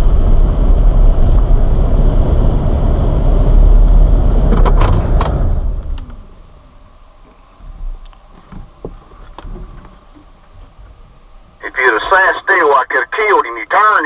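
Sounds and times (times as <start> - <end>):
truck road and engine rumble: 0.0 - 14.0.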